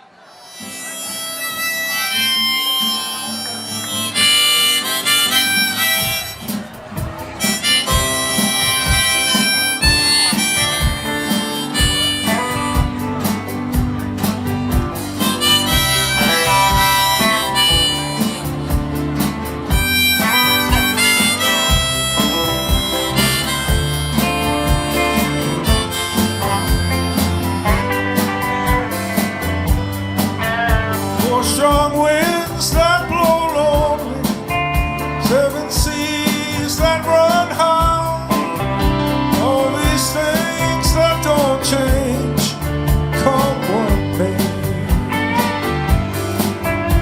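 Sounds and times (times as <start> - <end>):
guitar: 0.0 - 47.0
harmonica melody: 0.0 - 47.0
drum beat with bass: 0.7 - 47.0.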